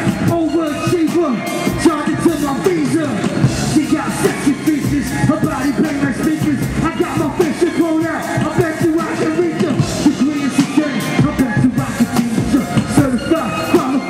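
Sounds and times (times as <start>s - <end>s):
rapping over a beat: 0.0s - 14.0s.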